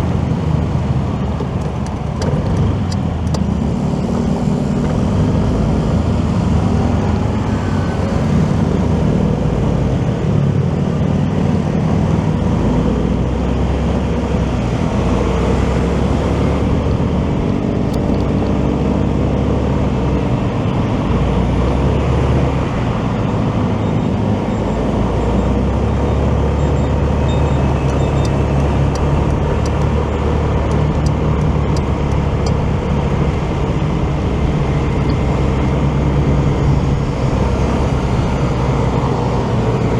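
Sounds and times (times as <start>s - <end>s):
motorcycle engine rumble: 0.0s - 11.3s, 15.6s - 39.9s
passing vehicles: 0.0s - 39.9s
road noise: 0.0s - 39.9s.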